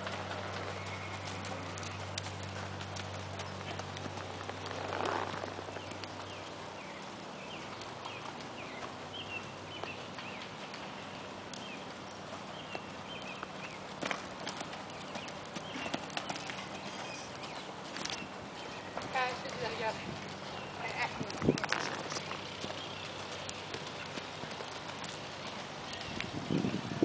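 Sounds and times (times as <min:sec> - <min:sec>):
horse hoofbeats on sand: 0:00.0 - 0:27.0.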